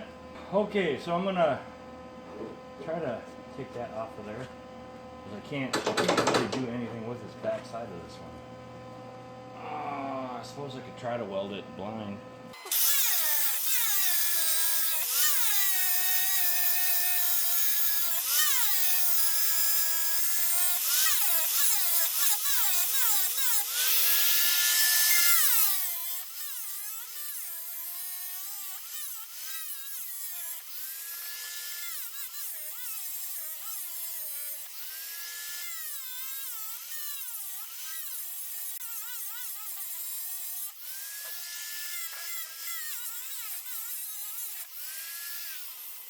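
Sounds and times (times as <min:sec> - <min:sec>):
electric grinder grinding metal: 0:05.3 - 0:08.2, 0:10.4 - 0:46.0.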